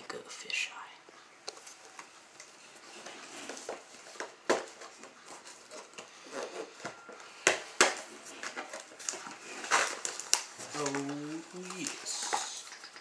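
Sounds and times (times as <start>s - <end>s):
soft packaging rustling: 1.1s - 13.0s.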